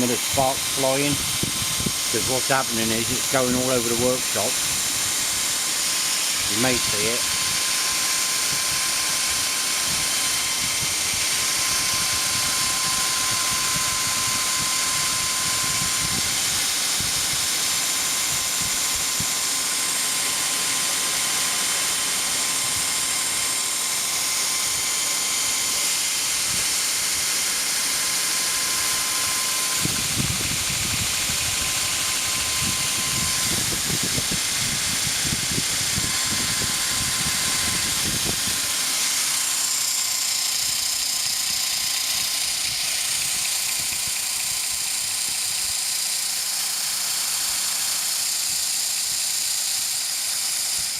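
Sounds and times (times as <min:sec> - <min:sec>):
belt grinder hiss and whine: 0:00.0 - 0:50.9
steel grinding against belt: 0:00.0 - 0:50.9.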